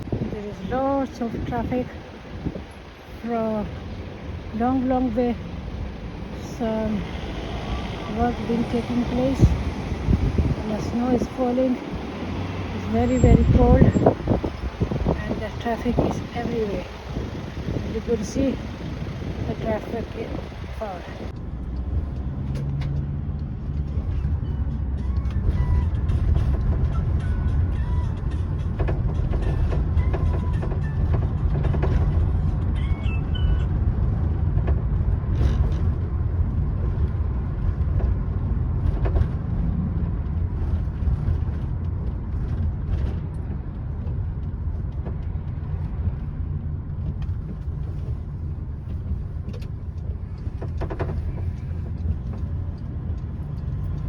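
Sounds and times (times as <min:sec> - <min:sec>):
distant road traffic hum: 0:00.0 - 0:54.0.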